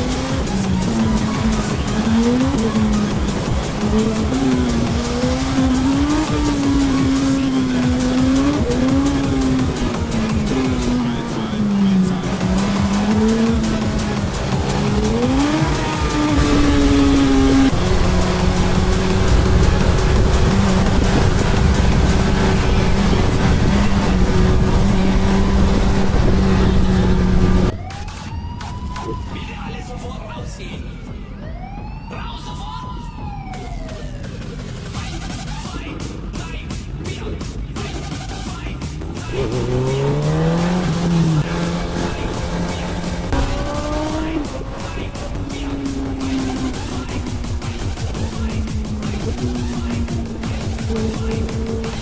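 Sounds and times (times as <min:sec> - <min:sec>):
motorcycle engine running: 0:00.0 - 0:27.8, 0:34.5 - 0:52.0.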